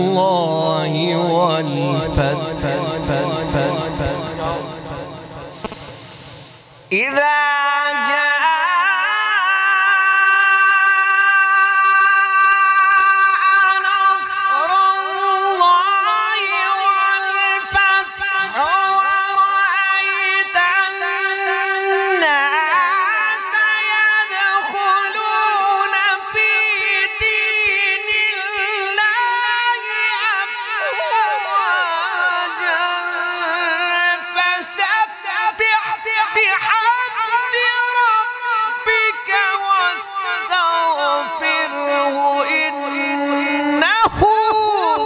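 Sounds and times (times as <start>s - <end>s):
man reciting melodically: 0.0s - 6.2s, 6.8s - 45.0s.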